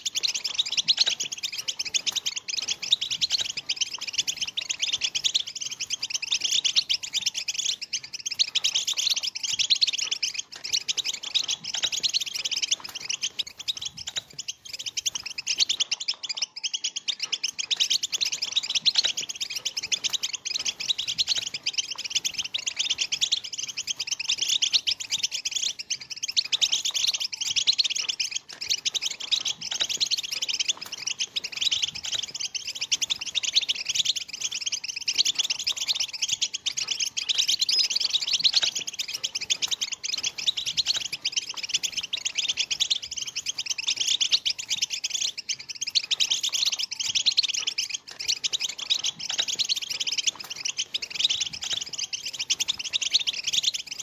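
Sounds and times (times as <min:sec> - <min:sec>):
goldfinches twittering: 0:00.0 - 0:54.0.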